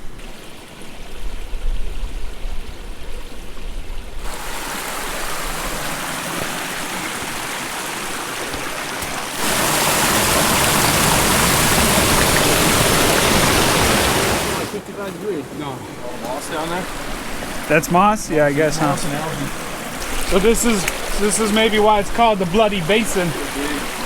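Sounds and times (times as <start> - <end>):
water rushing over rocks: 4.2 - 24.0.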